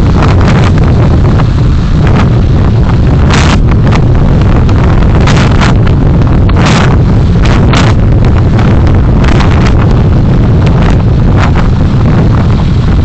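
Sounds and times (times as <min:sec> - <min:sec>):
road and wind rumble: 0:00.0 - 0:13.0.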